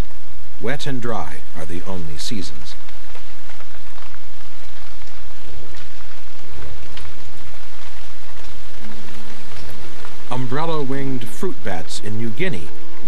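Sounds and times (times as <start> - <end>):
heavy rain on foliage: 0.0 - 13.0
low rumble: 0.0 - 13.0.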